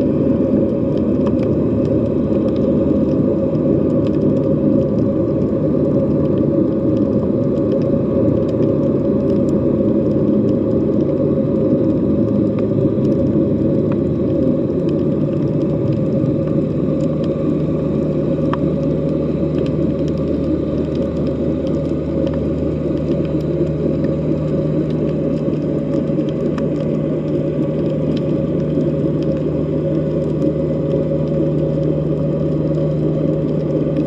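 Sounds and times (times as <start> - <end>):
faint underwater clicks: 0.0 - 34.0
underwater rumble and hum: 0.0 - 34.0.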